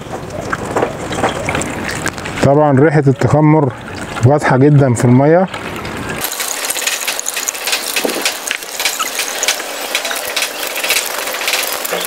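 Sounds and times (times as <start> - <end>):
wet slurry splashing: 0.0 - 12.0.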